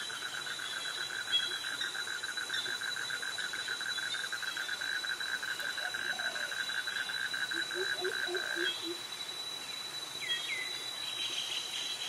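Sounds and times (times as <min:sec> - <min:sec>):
cicadas and crickets calling: 0:00.0 - 0:12.0.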